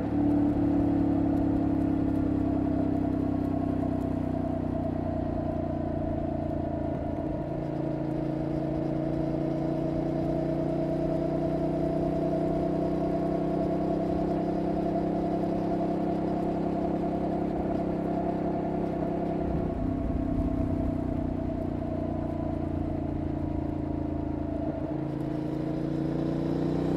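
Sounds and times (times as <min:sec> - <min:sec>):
motorcycle engine and exhaust: 0:00.0 - 0:26.9.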